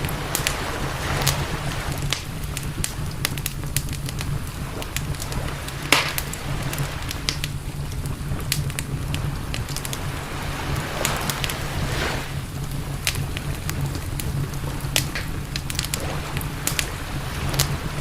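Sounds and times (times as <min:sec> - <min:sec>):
campfire crackling and popping: 0:00.0 - 0:18.0
steady low rumble: 0:00.0 - 0:18.0.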